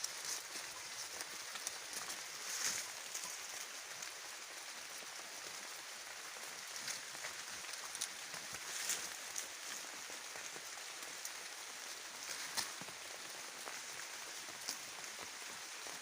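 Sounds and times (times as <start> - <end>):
faint crackles and ticks: 0.0 - 16.0
steady outdoor hiss: 0.0 - 16.0.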